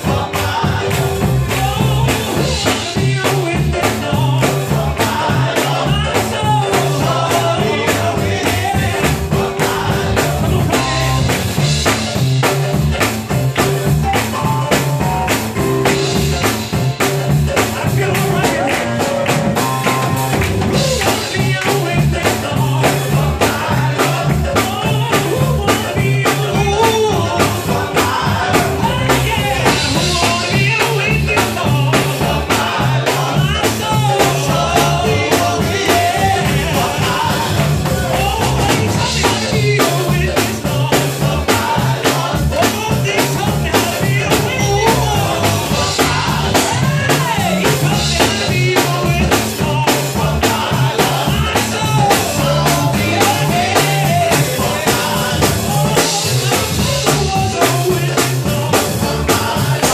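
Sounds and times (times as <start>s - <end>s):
band with drum kit: 0.0s - 59.9s
low bass line: 0.0s - 59.9s
male vocal group singing: 0.0s - 59.9s.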